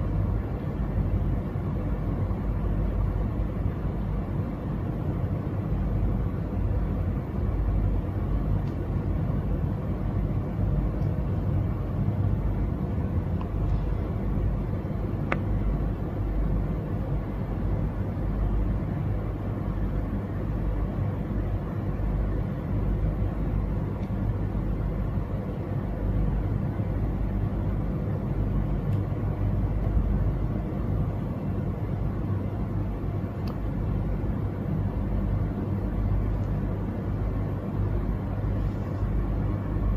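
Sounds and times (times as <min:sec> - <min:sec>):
faint hum: 0:00.0 - 0:39.9.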